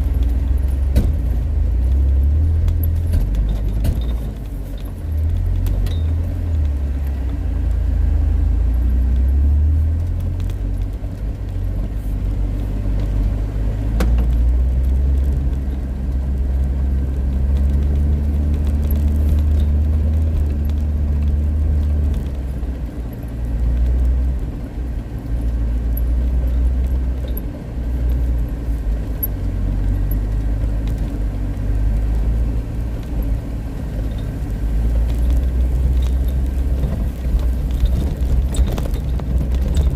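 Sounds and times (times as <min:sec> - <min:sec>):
small clicks and rattles: 0:00.0 - 0:07.9, 0:08.6 - 0:39.9
car engine and road rumble: 0:00.0 - 0:39.9.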